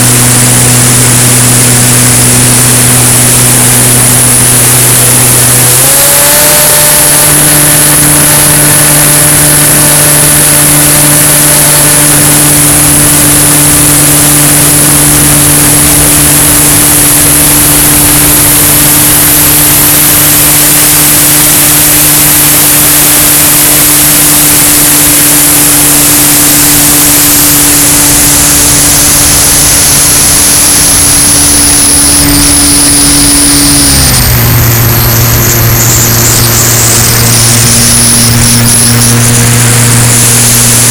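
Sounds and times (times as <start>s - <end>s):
propeller aircraft engine: 0.0s - 40.9s.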